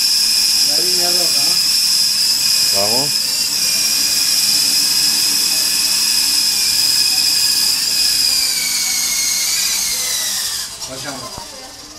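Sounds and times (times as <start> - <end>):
toy helicopter motor whine: 0.0 - 11.9.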